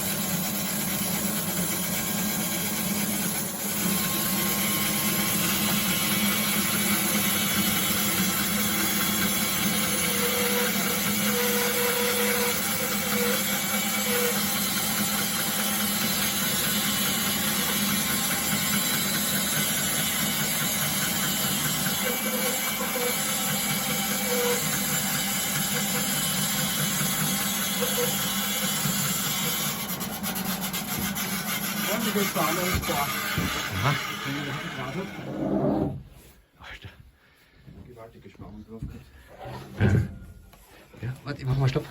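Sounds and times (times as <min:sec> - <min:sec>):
band saw blade sawing log: 0:00.0 - 0:36.1.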